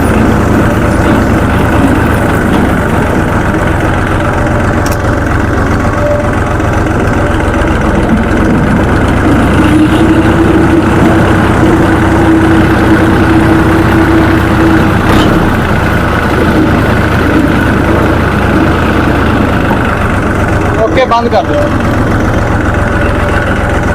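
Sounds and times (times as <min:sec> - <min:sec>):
tractor diesel engine idling: 0:00.0 - 0:23.9.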